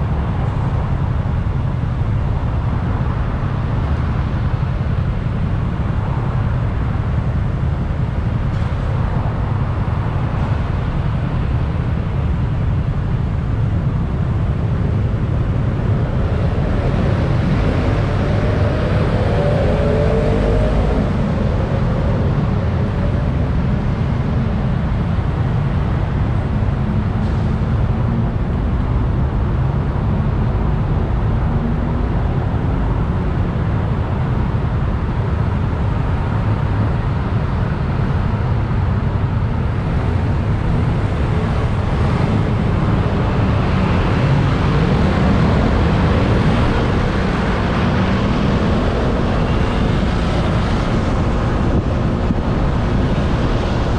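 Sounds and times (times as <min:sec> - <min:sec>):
surrounding traffic: 0:00.0 - 0:53.9
wind rush on microphone: 0:00.0 - 0:53.9.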